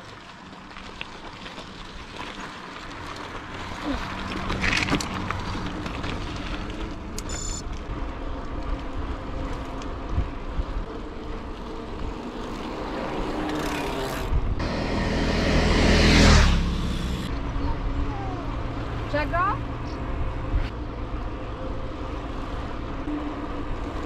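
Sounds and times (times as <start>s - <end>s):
steady riding rumble: 0.0s - 24.0s
motor vehicle passing: 1.8s - 24.0s.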